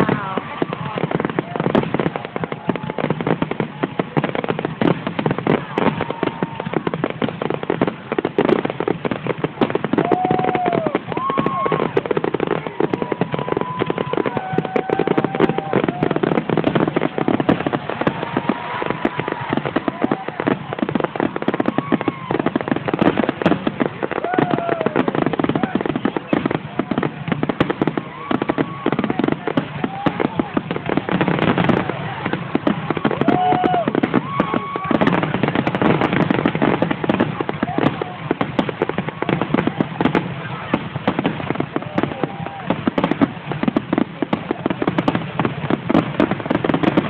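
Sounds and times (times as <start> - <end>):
fireworks crackling and banging: 0.0 - 47.0
fireworks whistling: 0.0 - 47.0.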